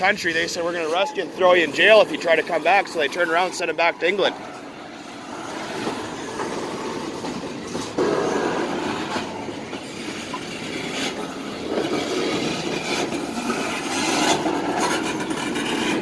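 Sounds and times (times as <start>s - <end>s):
sharp clacks of train cars: 0.0s - 16.0s
train wheels rumbling on rail: 0.0s - 16.0s.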